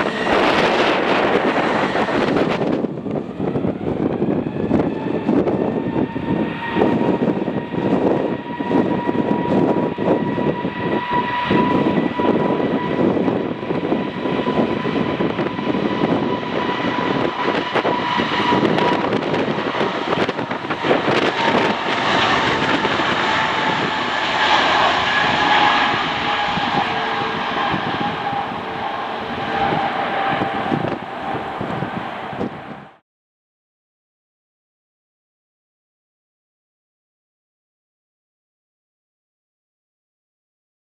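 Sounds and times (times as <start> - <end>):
airliner engines whining: 0.0 - 33.0
wind buffeting microphone: 0.0 - 33.0.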